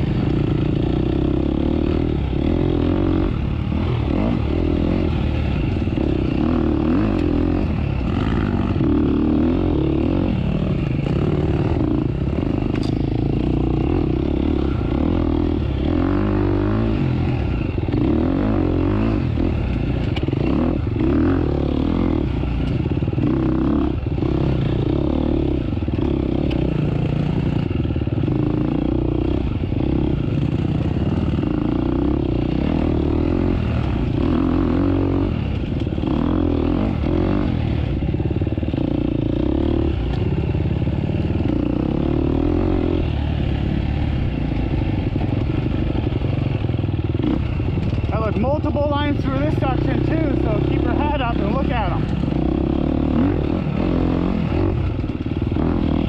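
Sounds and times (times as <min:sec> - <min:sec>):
motorcycle engine revving: 0:00.0 - 0:56.0
motorcycle rattling: 0:00.0 - 0:56.0.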